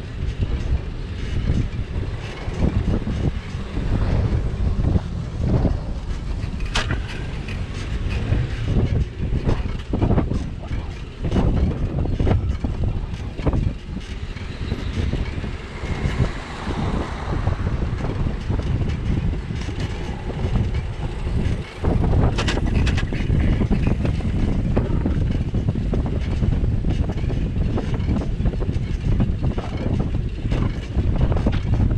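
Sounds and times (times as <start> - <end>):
road noise: 0.0 - 31.9
wind buffeting microphone: 0.0 - 31.9.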